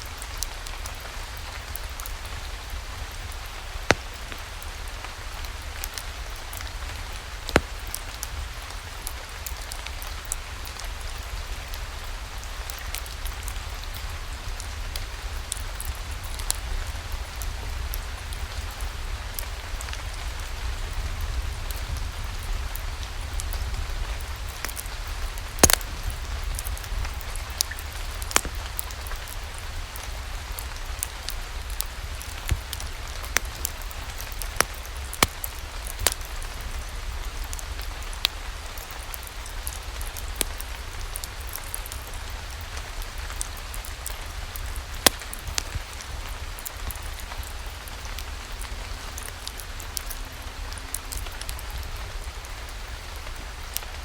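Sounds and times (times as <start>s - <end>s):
steady rain falling: 0.0s - 54.0s
wood fire crackling: 0.2s - 19.5s, 22.4s - 54.0s.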